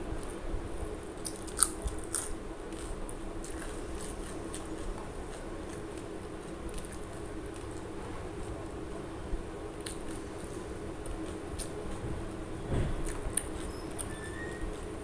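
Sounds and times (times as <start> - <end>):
steady low hum: 0.0 - 15.0
chewing: 1.2 - 8.9, 9.7 - 15.0.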